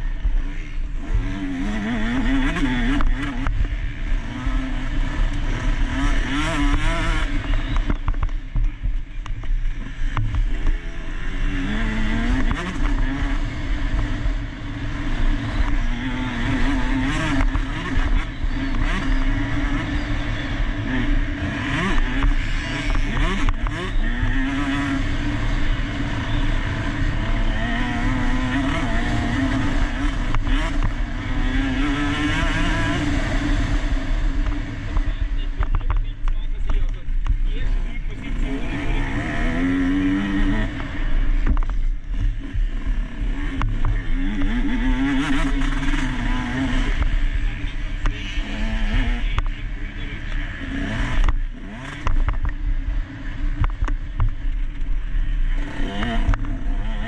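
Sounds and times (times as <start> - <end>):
motocross bike engine revving: 0.0 - 57.0
steady low rumble: 0.0 - 57.0.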